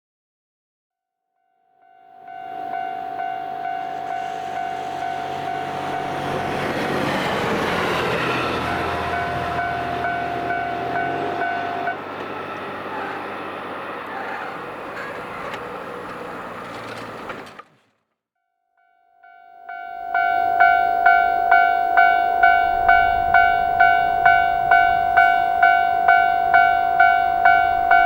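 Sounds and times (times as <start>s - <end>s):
level-crossing warning alarm: 1.8s - 16.6s, 18.8s - 28.0s
diesel railcar rumble and wheel noise: 2.2s - 17.8s, 19.9s - 28.0s.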